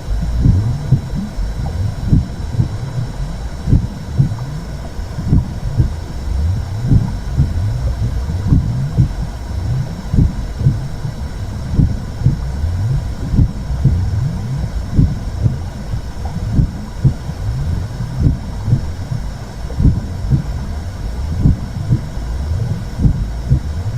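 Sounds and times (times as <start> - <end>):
low rumbling whoosh: 0.0 - 23.9
soft double thump heartbeat: 0.0 - 23.9.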